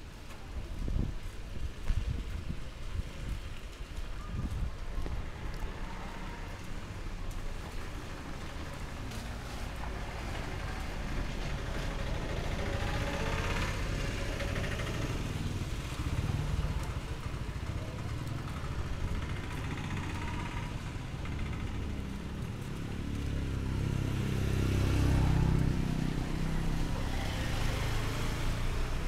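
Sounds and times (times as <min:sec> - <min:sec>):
vehicle engines passing: 0:02.0 - 0:29.0.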